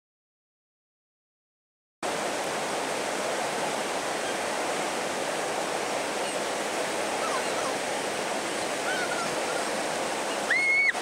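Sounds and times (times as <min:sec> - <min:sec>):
whitewater river rushing over rocks: 0:02.0 - 0:11.0.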